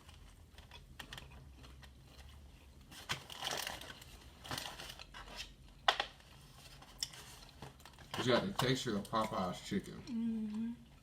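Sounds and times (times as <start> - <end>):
paper wrapping crinkling: 0.0 - 9.5.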